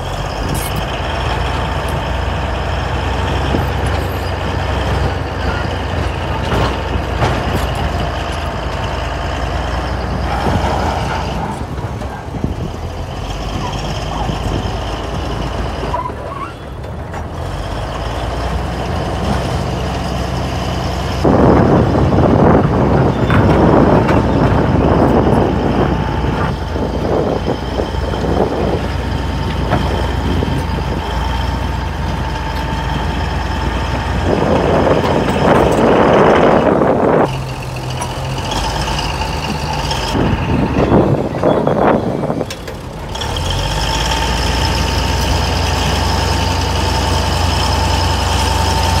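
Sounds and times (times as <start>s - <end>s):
diesel engine whine: 0.0s - 49.0s.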